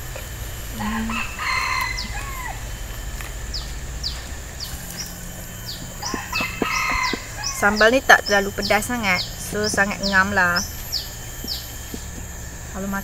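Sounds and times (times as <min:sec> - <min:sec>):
high falling chirps: 0:00.0 - 0:13.0
rooster crowing: 0:00.7 - 0:12.6.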